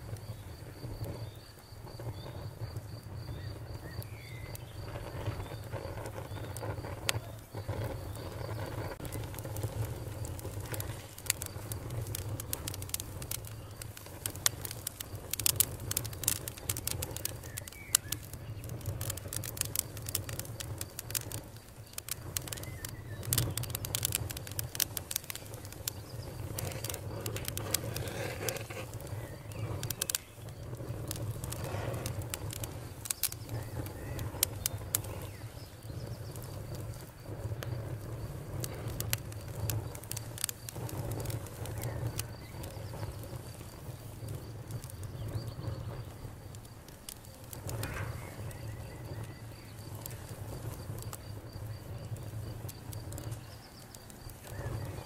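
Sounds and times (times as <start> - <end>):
campfire crackling and popping: 0.0 - 55.0
low rumble of burning: 0.0 - 55.0
faint birds chirping: 0.1 - 55.0.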